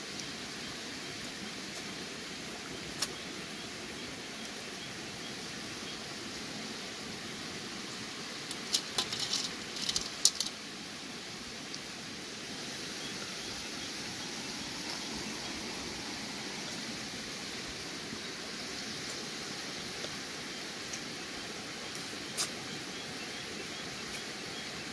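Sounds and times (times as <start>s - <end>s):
stream rushing: 0.0s - 24.9s.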